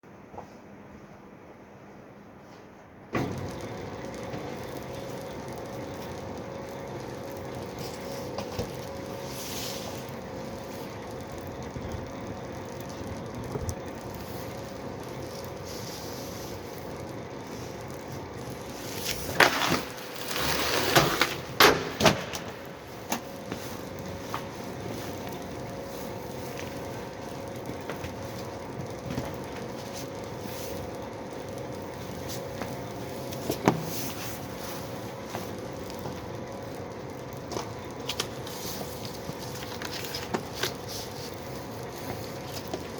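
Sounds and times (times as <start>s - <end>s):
machine hum: 2.8s - 42.9s.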